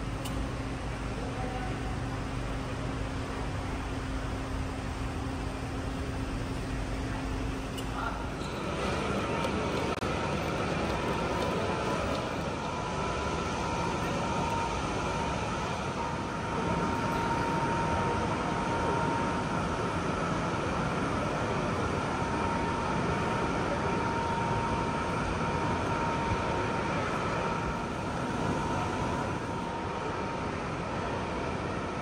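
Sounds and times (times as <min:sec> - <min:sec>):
airliner cabin drone: 0:00.0 - 0:32.0
thin steady whine: 0:00.0 - 0:32.0.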